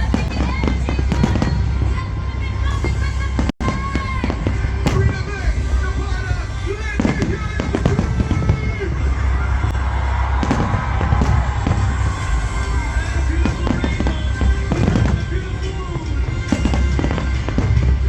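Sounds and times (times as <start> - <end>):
deep rumble: 0.0 - 18.0
fireworks bangs and crackles: 0.0 - 18.0
music playing: 0.0 - 18.0.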